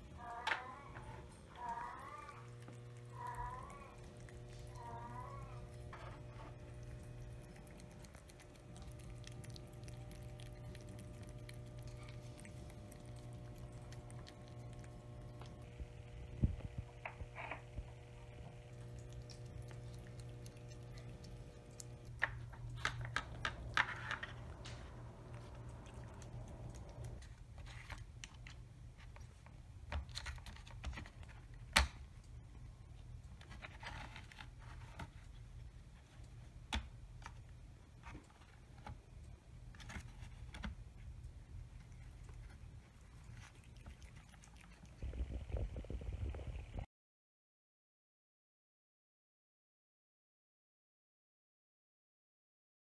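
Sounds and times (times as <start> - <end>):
steady low hum: 0.0 - 29.9, 31.0 - 46.9
cat licking and chewing food: 0.1 - 46.8.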